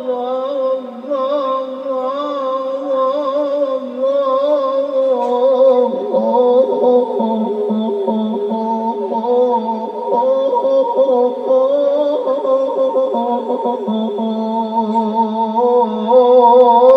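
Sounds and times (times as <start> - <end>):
man singing melismatic line: 0.0 - 16.9.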